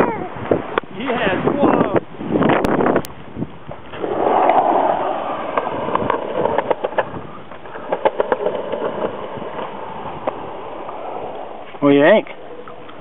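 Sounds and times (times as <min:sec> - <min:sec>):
skateboard wheels rolling on concrete: 0:00.0 - 0:13.0.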